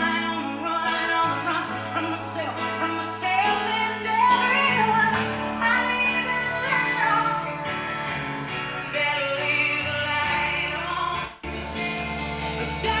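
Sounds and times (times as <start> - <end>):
held bass notes: 0.0 - 13.0
person singing: 0.0 - 13.0.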